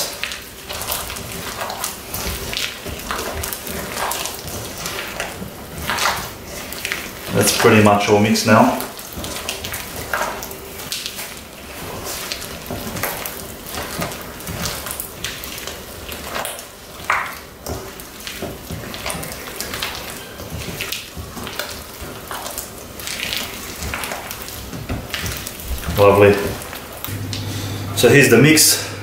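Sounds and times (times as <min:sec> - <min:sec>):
crackling rustle: 0:00.0 - 0:27.4
hands mixing sticky food: 0:00.0 - 0:28.8.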